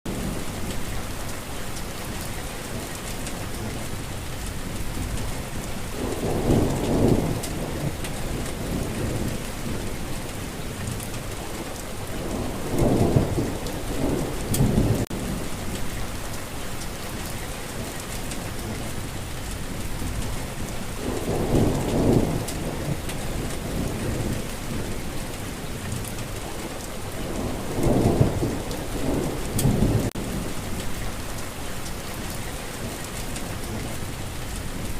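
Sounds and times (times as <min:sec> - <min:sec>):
steady rain hiss: 0:00.1 - 0:34.9
thunder rumbling: 0:04.6 - 0:34.9.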